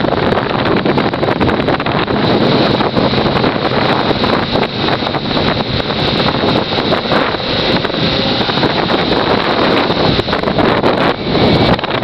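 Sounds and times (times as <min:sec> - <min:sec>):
motorcycle engine: 0:00.0 - 0:12.0
road noise: 0:00.0 - 0:12.0
wind buffeting microphone: 0:00.0 - 0:12.0.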